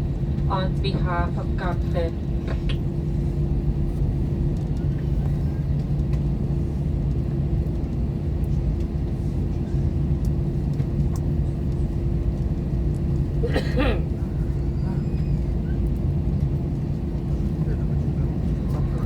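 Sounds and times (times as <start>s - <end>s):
aircraft cabin rumble and hum: 0.0s - 19.0s.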